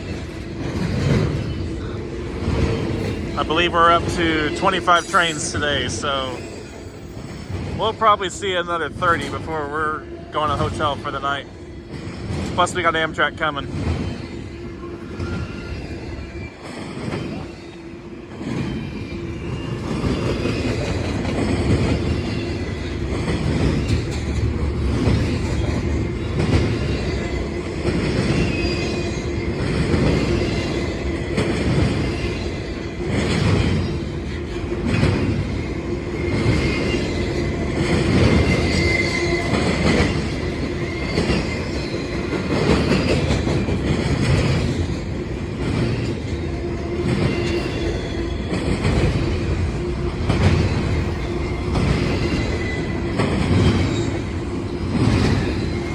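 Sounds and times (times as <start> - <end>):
freight train wheels knocking: 0.0 - 55.9
train rumbling hum: 0.0 - 55.9.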